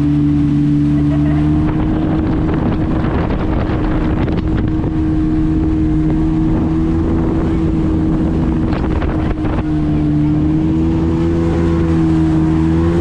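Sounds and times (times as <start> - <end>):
jet ski engine droning: 0.0 - 13.0
wind buffeting microphone: 0.5 - 13.0.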